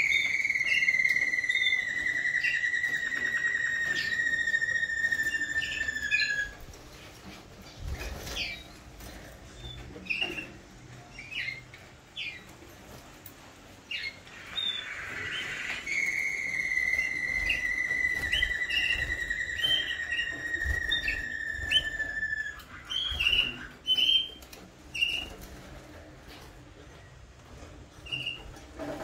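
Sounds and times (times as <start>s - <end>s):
canaries singing: 0.0s - 29.0s.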